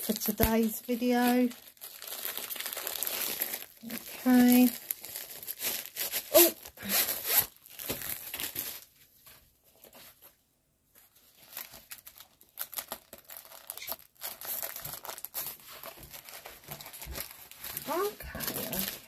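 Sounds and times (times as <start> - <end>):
plastic packaging crinkling: 0.0 - 10.3, 11.0 - 19.0.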